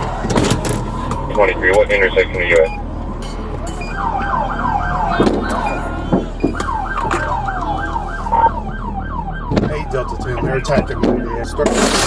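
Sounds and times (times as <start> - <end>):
police siren yelping: 0.0 - 12.0.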